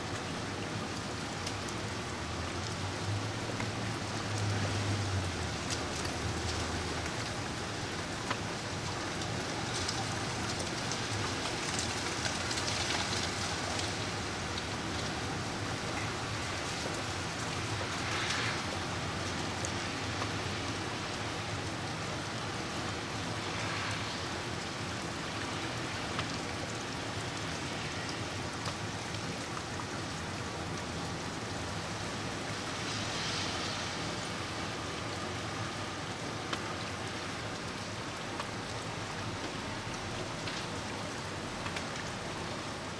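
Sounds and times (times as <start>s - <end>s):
freezing rain hissing: 0.0s - 42.9s.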